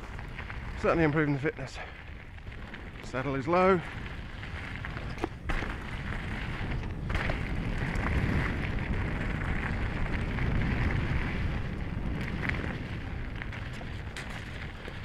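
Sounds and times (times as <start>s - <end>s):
bike tyres rolling over gravel: 0.0s - 15.0s
stones ticking and bike rattling: 0.0s - 15.0s
wind buffeting microphone: 0.0s - 15.0s.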